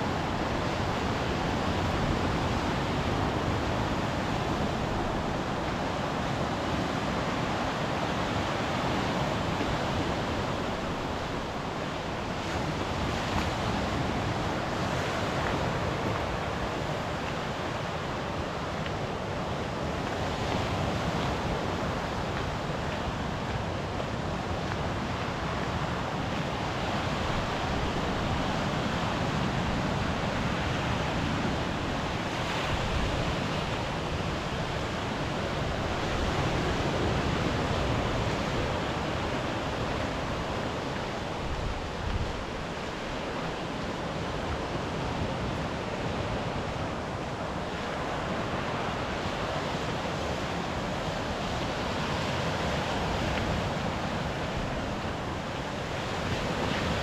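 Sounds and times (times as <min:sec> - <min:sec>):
sea surf washing onto shore: 0:00.0 - 0:57.0.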